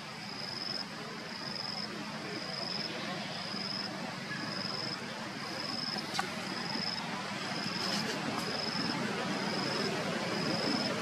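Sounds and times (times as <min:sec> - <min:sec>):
insect chirping: 0:00.1 - 0:11.0.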